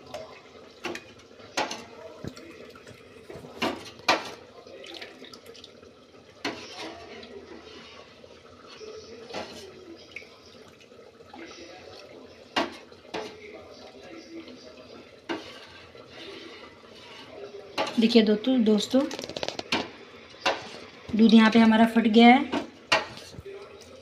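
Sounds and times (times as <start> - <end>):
water pouring and splashing: 0.0 - 24.0.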